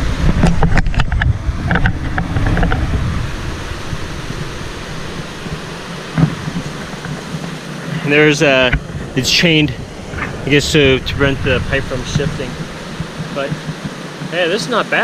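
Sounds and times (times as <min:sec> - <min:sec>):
wind rumbling on microphone: 0:00.0 - 0:14.5.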